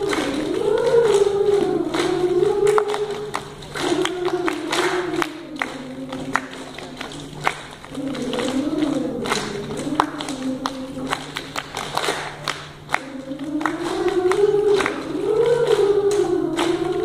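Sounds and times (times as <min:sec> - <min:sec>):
children's choir singing: 0:00.0 - 0:17.0
hand claps and pats: 0:00.0 - 0:17.0.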